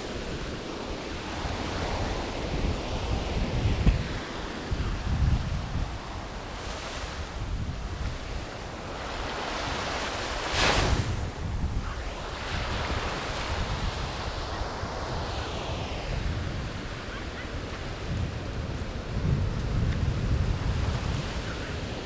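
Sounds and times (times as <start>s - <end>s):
surf breaking on a beach: 0.0s - 22.0s
wind buffeting microphone: 0.0s - 22.0s.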